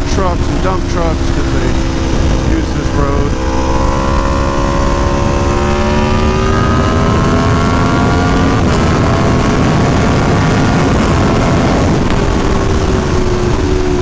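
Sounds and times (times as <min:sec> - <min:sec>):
motorcycle engine accelerating: 0:00.0 - 0:14.0
steady rushing noise: 0:00.0 - 0:14.0.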